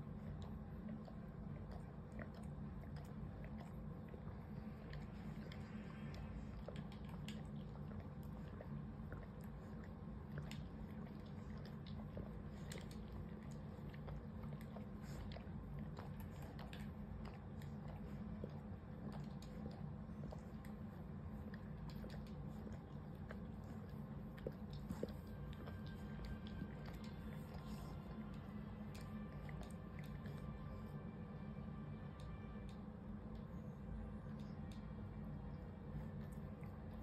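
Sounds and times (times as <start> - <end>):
cat licking fur: 0.0 - 30.6
steady low hum: 0.0 - 37.0.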